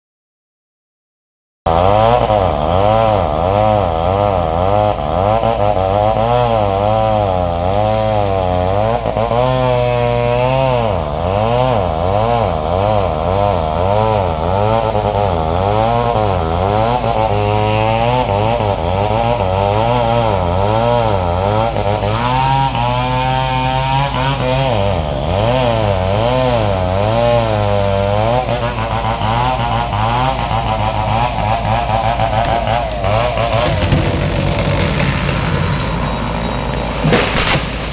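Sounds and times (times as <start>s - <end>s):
chainsaw cutting timber: 1.7s - 37.9s.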